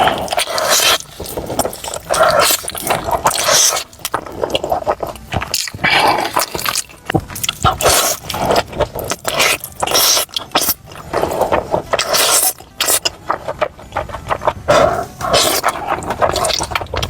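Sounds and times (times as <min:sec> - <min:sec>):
chewing and biting food: 0:00.0 - 0:17.0.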